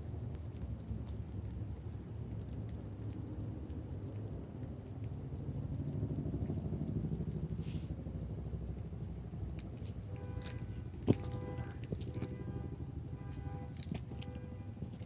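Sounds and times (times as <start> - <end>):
wet concrete crackling: 0.0 - 15.0.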